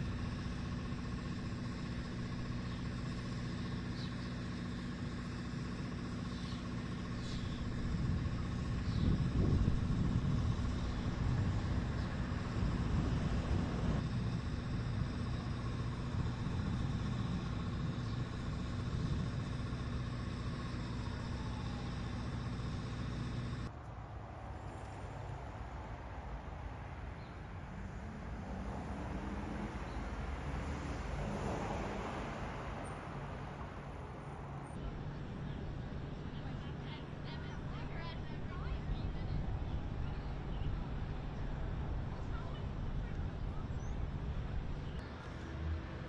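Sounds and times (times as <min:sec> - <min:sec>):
steady hum: 0:00.0 - 0:23.7, 0:28.0 - 0:45.0
road traffic rumbling: 0:00.0 - 0:46.0.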